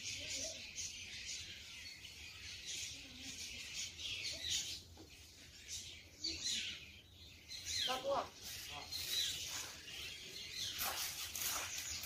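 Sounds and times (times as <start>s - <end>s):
faint high-pitched chirping: 0.0s - 12.0s.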